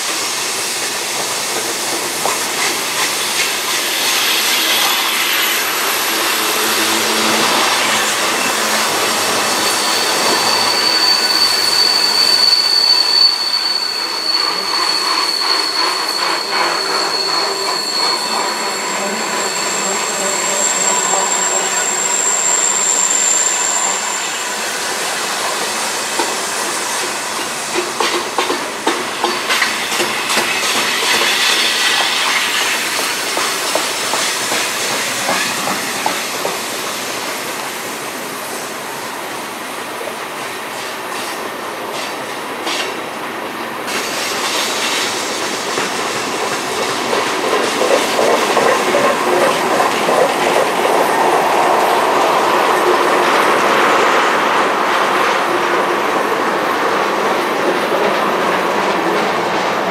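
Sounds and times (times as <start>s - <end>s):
train wheels on rails: 0.0s - 59.9s
high wheel squeal: 2.5s - 27.8s, 29.3s - 38.8s, 43.9s - 59.9s.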